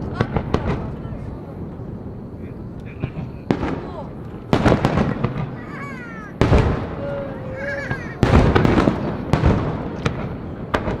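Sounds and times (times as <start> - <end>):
loud bangs with crackling: 0.0 - 2.1, 2.7 - 11.0.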